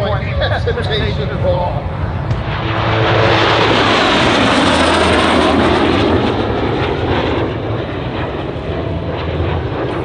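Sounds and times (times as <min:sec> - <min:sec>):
jet aircraft passing: 0:00.0 - 0:10.0.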